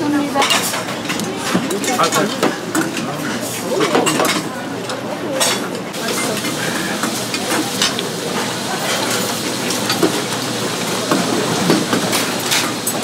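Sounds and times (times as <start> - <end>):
kitchen background noise: 0.0 - 13.0
dishes and utensils clinking: 0.1 - 13.0.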